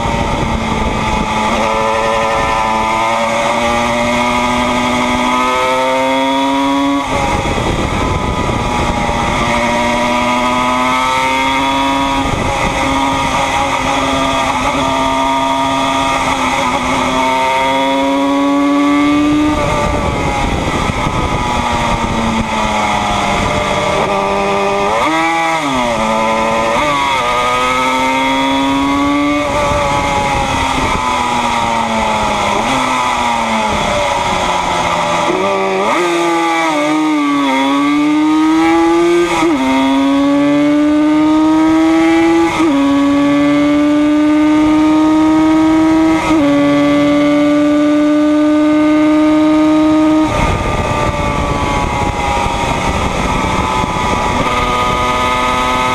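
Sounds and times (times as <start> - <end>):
wind rush: 0.0 - 5.3, 5.9 - 55.9
motorcycle engine revving high: 0.0 - 55.9.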